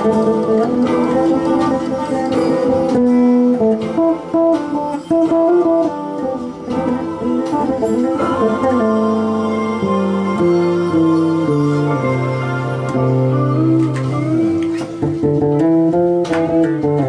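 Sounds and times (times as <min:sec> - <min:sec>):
electric bass plucked melody: 0:00.0 - 0:17.0.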